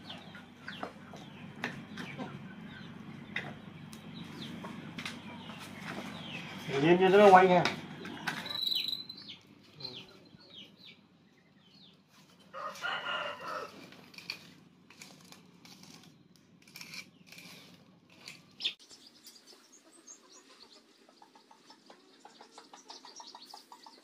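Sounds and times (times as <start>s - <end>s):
birds chirping: 0.0s - 13.7s, 16.1s - 24.0s.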